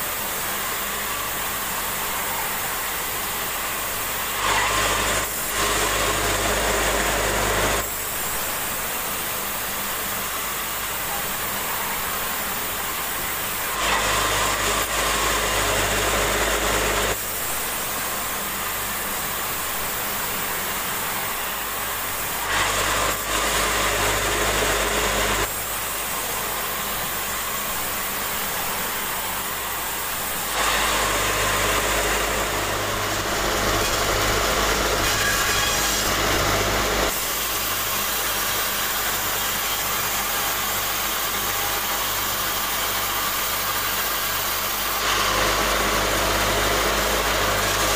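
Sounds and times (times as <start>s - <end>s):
saw blade cutting timber: 0.0s - 47.9s
sawmill saw humming: 0.0s - 47.9s.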